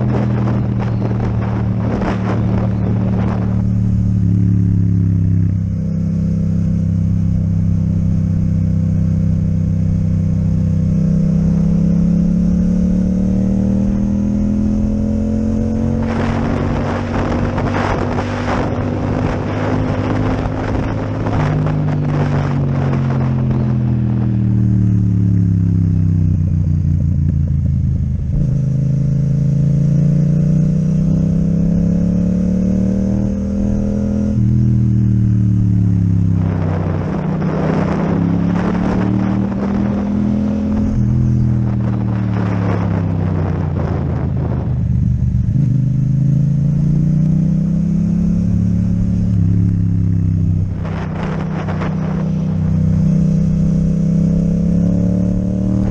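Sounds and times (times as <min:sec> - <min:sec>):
motorcycle engine revving: 0:00.0 - 0:55.9
wind rushing over microphone: 0:00.0 - 0:55.9.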